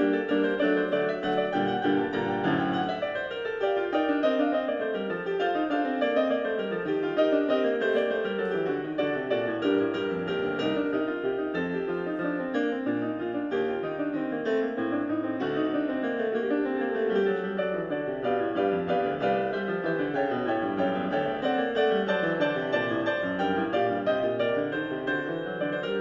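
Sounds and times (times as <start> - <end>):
piano music over loudspeaker: 0.0 - 26.0.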